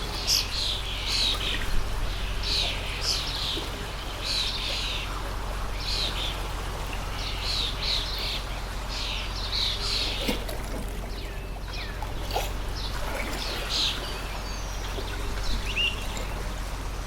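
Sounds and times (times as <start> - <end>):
small birds chirping: 0.0 - 16.5
flowing stream: 0.0 - 17.0.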